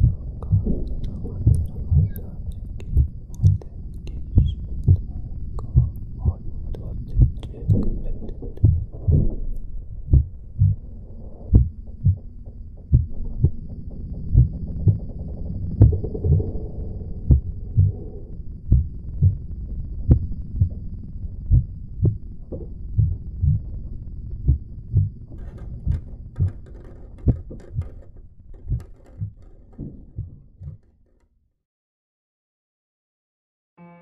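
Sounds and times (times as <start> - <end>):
heartbeat thumps: 0.0 - 30.9.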